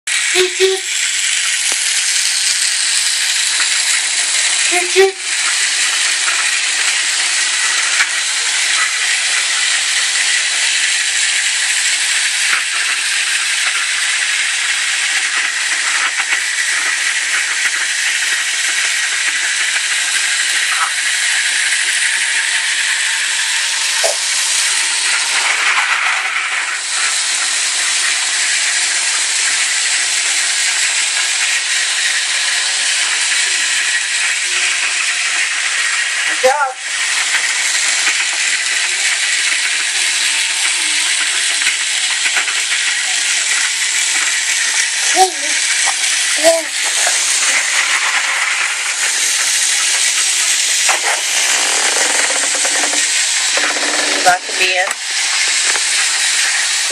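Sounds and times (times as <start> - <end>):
steady loud hiss: 0.1 - 56.9.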